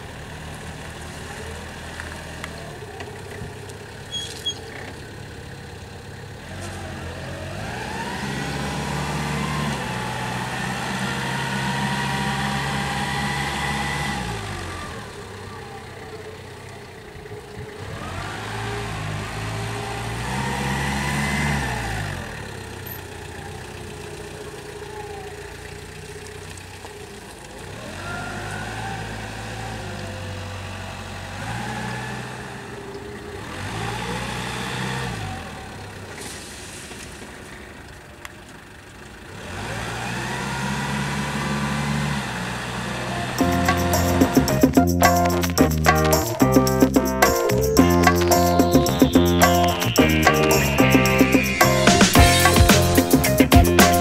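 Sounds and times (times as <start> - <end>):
engine whine: 0.0 - 36.1, 39.2 - 54.0
forklift engine revving: 0.0 - 36.3, 39.2 - 54.0.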